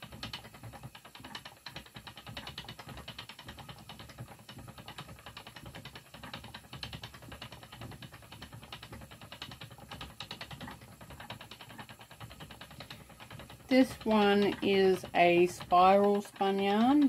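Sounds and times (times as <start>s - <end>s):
spinning wheel whirring: 0.0s - 17.0s.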